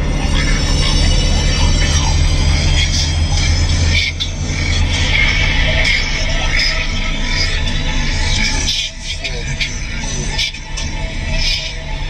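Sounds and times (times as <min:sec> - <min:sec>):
bass-heavy rap music on car audio: 0:00.0 - 0:12.0.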